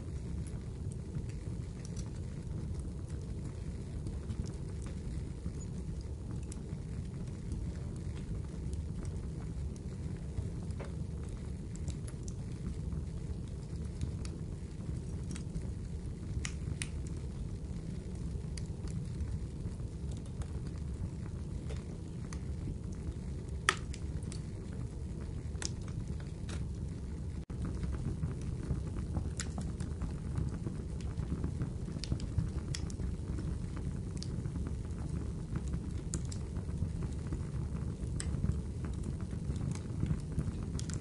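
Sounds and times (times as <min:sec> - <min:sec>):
light crackles and ticks: 0:00.0 - 0:41.0.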